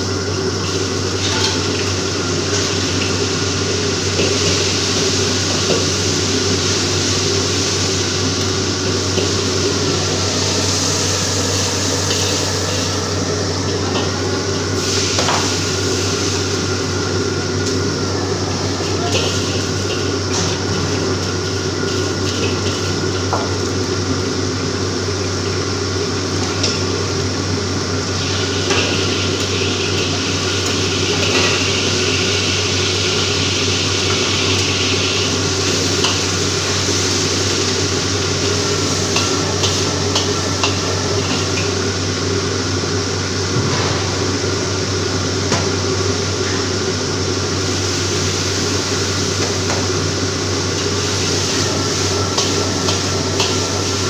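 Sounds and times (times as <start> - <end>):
burner and extractor hum: 0.0 - 54.0
food sizzling in wok: 0.0 - 54.0.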